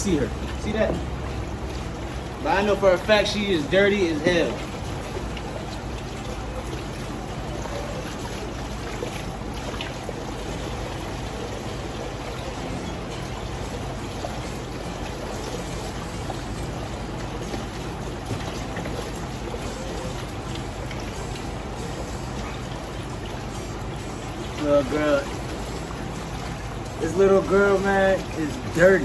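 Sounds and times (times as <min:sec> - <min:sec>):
water running and splashing: 0:00.0 - 0:29.0.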